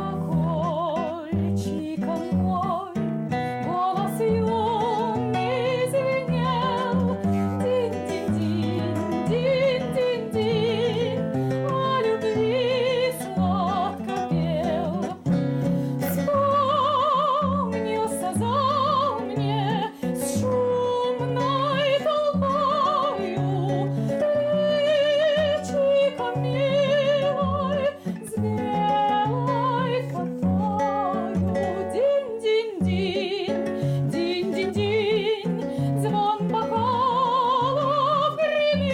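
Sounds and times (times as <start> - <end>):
plucked acoustic guitar: 0.0 - 38.9
woman singing with vibrato: 0.0 - 38.9.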